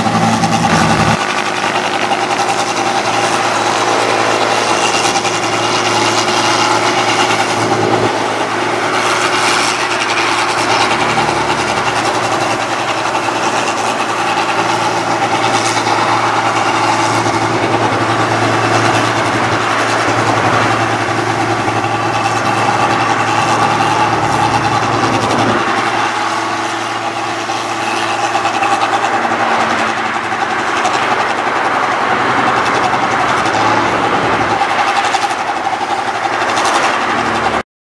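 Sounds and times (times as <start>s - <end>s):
combine harvester running: 0.0s - 37.6s.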